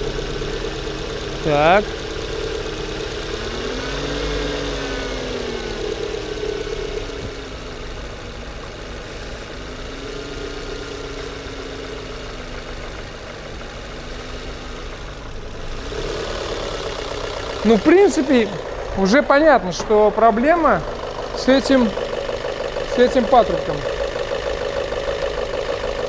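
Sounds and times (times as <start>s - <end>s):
car engine idling unevenly: 0.0s - 26.0s.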